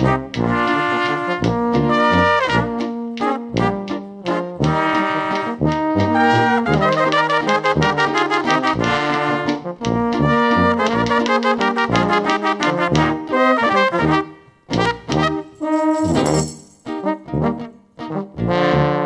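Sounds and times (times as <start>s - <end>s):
trumpet and trombone melody: 0.0s - 19.0s
tuba bass notes: 0.0s - 19.0s.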